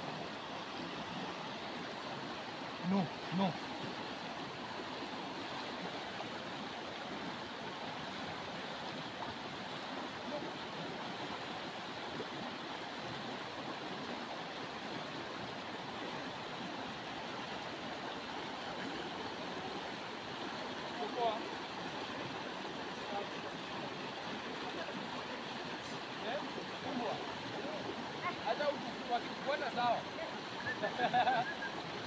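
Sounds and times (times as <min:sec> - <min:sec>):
river water over rocks: 0:00.0 - 0:32.0.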